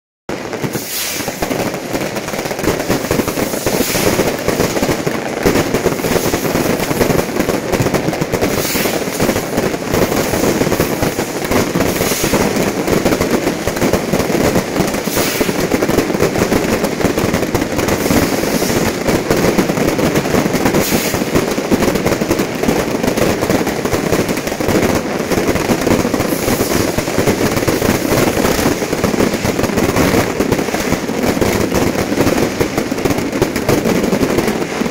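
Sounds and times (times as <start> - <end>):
fireworks crackling and banging: 0.3 - 34.9.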